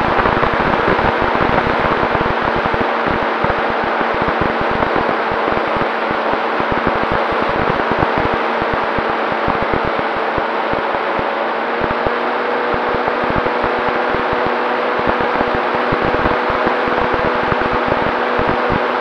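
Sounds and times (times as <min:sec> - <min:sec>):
faint motor hum: 0:00.0 - 0:19.0
gusts buffeting microphone: 0:00.0 - 0:19.0
rushing wind noise: 0:00.0 - 0:19.0.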